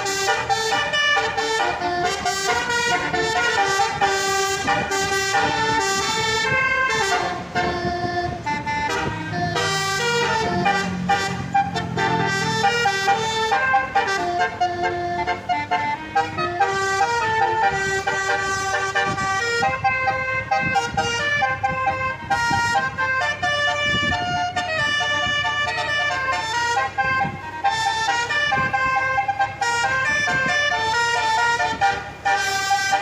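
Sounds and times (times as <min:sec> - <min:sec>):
bus engine rumble: 0:00.0 - 0:33.0
multi-tone air horn melody: 0:00.0 - 0:33.0.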